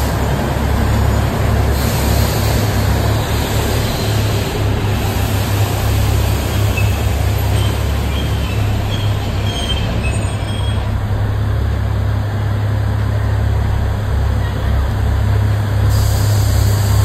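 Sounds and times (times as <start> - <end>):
diesel locomotive engine droning: 0.0 - 17.0.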